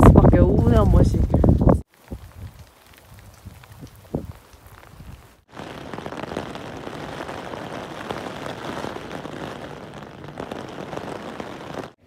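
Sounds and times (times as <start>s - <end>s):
heavy rain falling: 1.9s - 12.0s.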